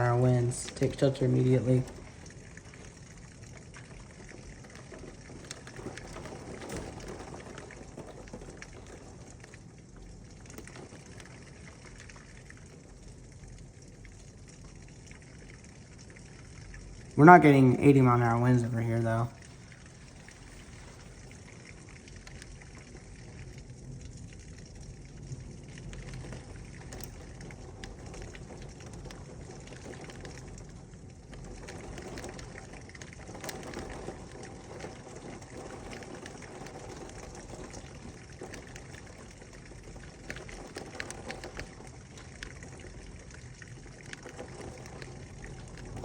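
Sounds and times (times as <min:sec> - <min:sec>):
drops ticking and splashing: 0:00.0 - 0:17.8, 0:18.8 - 0:46.0
heavy rain falling: 0:00.0 - 0:46.0.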